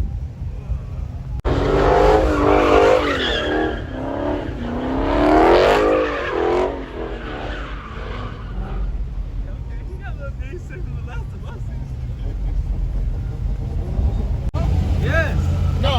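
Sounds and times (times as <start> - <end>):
car engine revving: 0.0 - 15.9
tires squealing: 0.1 - 15.9.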